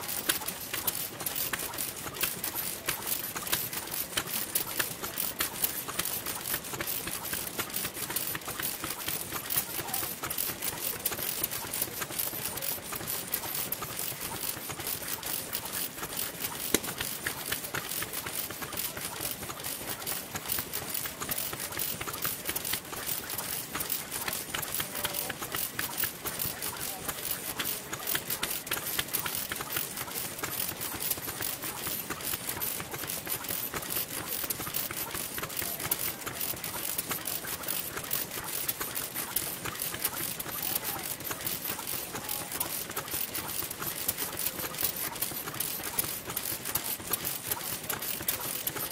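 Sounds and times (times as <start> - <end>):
old engine ticking clatter: 0.0 - 48.9
other old engines running: 0.0 - 48.9.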